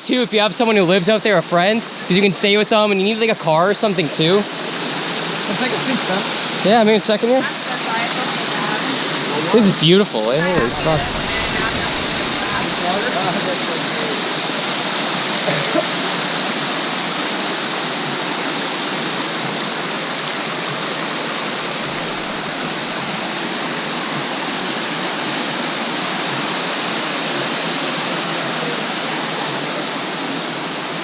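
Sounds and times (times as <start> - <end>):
waterfall rushing over rock: 0.0 - 31.0.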